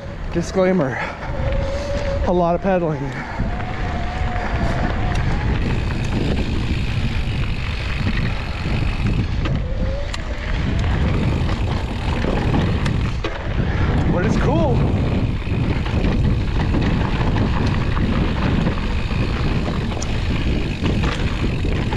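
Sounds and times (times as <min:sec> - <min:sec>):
bike clicks and rattles: 0:00.0 - 0:21.9
wind buffeting microphone: 0:00.0 - 0:21.9
tyres rumbling over dirt: 0:02.8 - 0:09.6, 0:10.3 - 0:21.9.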